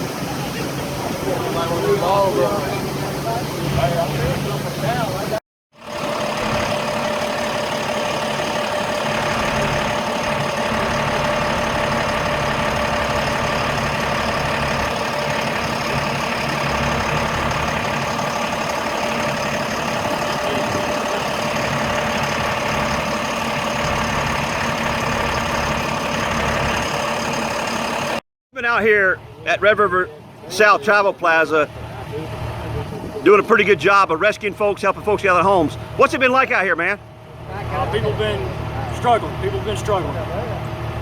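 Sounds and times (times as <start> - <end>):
heavy vehicle engine running: 0.0 - 28.2, 29.2 - 41.0.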